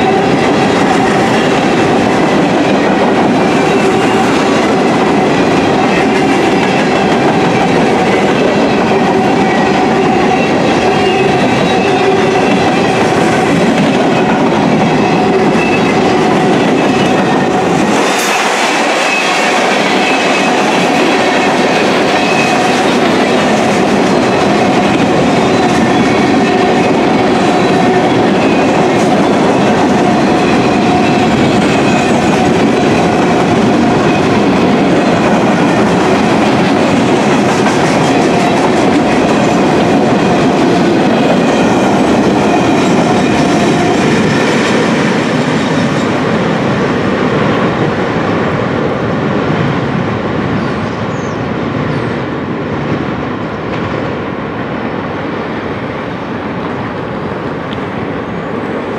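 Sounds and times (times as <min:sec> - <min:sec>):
steel wheels clattering on rails: 0:00.0 - 0:48.6.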